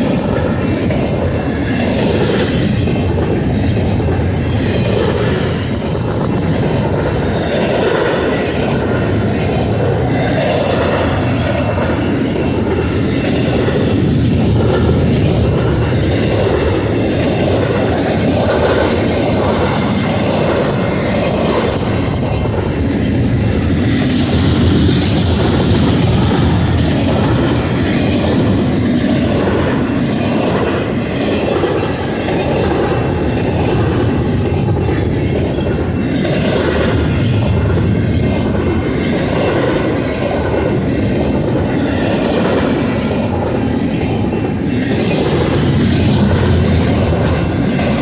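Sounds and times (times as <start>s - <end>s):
freight train rolling past: 0.0s - 48.0s
wheels clattering on rail: 0.0s - 48.0s.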